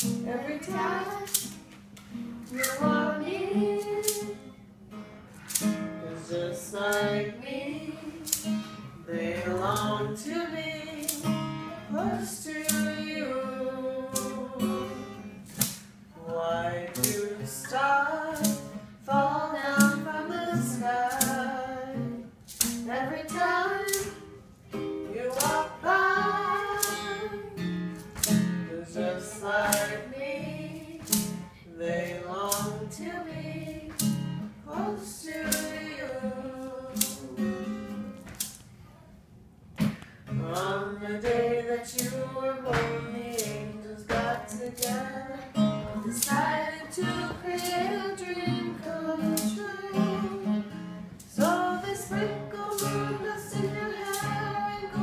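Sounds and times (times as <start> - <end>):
woman singing: 0.0 - 1.6, 2.4 - 4.6, 6.0 - 15.4, 16.2 - 27.8, 28.6 - 38.1, 40.3 - 55.0
strummed acoustic guitar: 0.0 - 38.9, 39.7 - 55.0.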